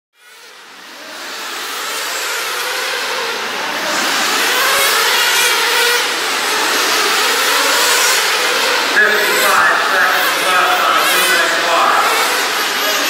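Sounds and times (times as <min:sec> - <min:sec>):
small engines whining at high revs: 0:00.2 - 0:13.0.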